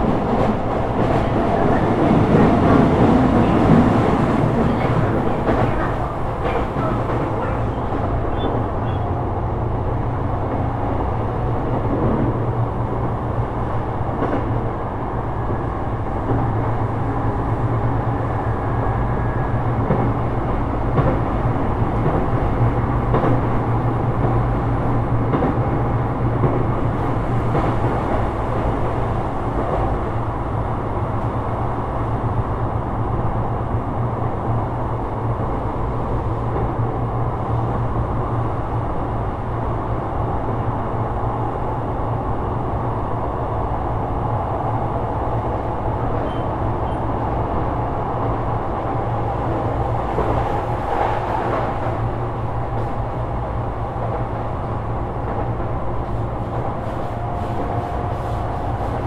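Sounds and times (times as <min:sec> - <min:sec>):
train wheels and motors rumbling: 0:00.0 - 0:59.0.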